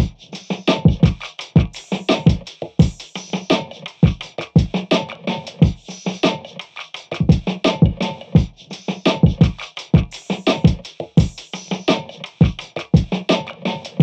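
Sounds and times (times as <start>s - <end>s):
drum machine beat: 0.0s - 14.0s.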